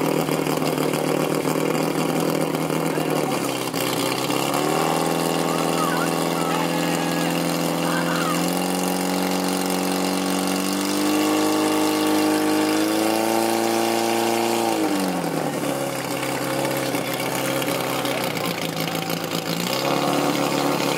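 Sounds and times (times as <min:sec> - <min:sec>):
fire pump engine running: 0:00.0 - 0:20.9.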